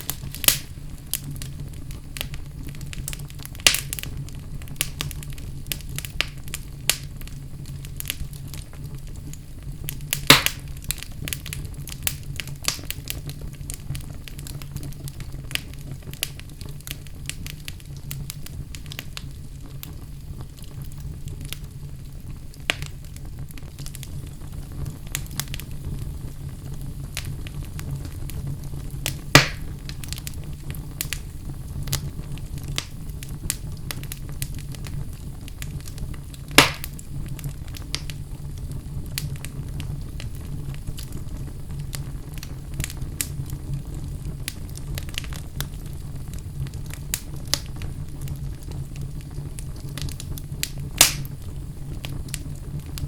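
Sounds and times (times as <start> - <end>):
fire crackling: 0.0 - 53.0
fire popping: 0.0 - 53.0
fire rumbling in fireplace: 0.0 - 53.0.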